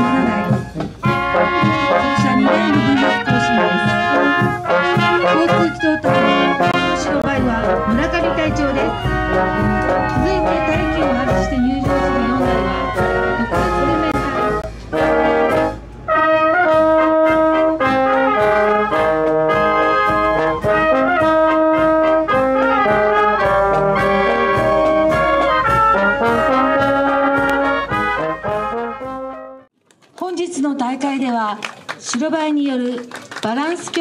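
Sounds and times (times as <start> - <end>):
brass band playing a march: 0.0 - 29.7.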